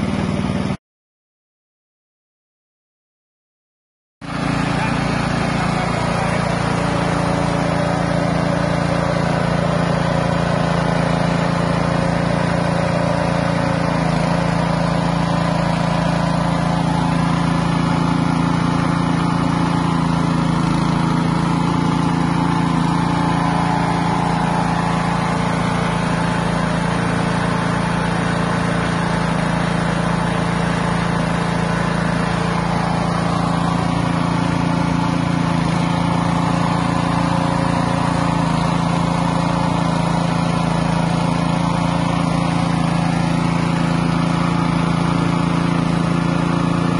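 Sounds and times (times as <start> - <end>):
small petrol engine running: 0.0 - 0.8, 4.2 - 46.9.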